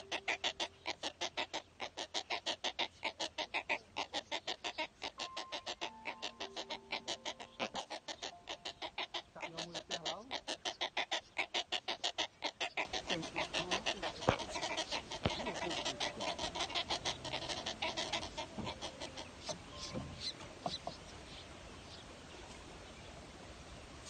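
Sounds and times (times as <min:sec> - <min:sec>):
nestlings chattering begging calls: 0:00.0 - 0:22.1.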